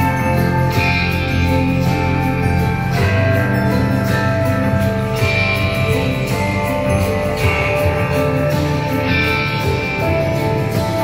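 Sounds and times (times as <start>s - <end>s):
music through soundbar: 0.0s - 11.0s.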